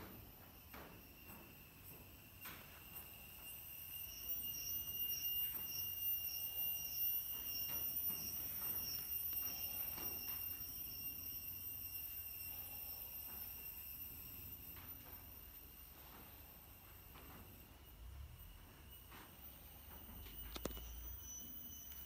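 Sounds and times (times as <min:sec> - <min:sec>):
high-pitched ringing tones: 0:00.0 - 0:22.0
pulsing tone: 0:00.1 - 0:22.0.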